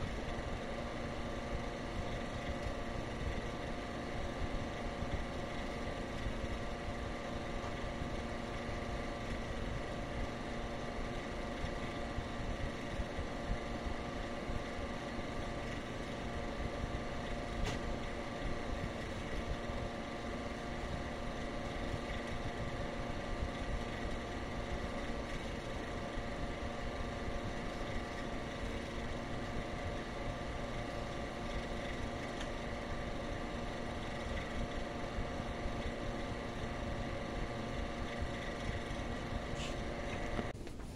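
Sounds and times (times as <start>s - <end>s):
constant hums: 0.0s - 40.9s.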